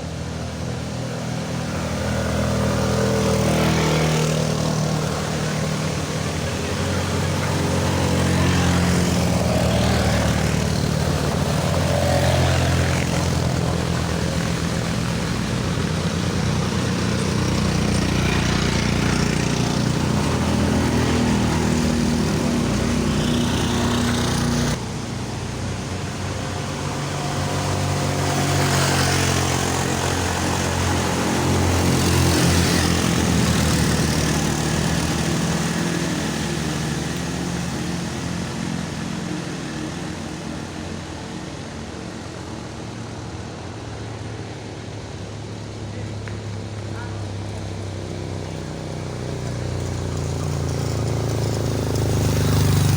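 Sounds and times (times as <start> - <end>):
motor vehicle engine droning: 0.0 - 52.9.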